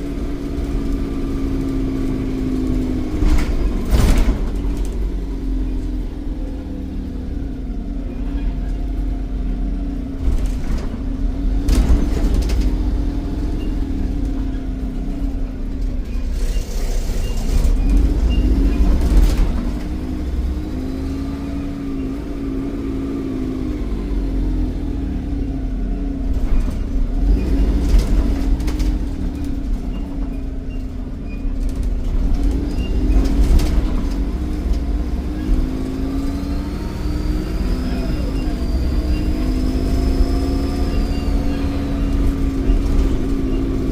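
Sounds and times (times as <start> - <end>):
bus diesel engine: 0.0 - 43.9.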